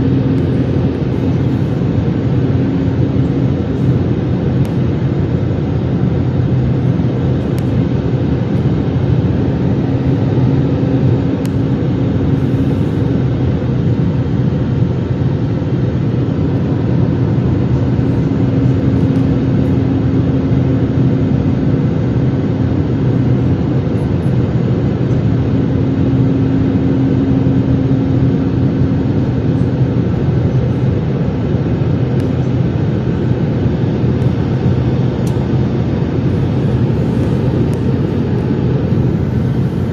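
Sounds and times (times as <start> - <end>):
airliner cabin roar: 0.0 - 39.9
low hum: 0.0 - 39.9.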